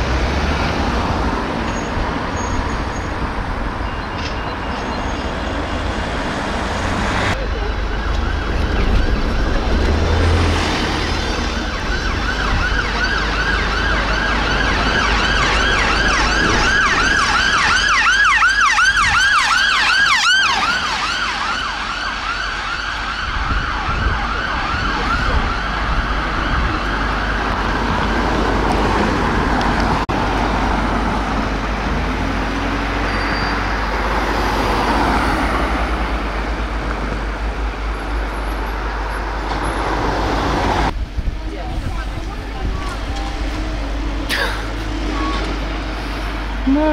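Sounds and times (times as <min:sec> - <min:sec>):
road traffic: 0:00.0 - 0:46.9.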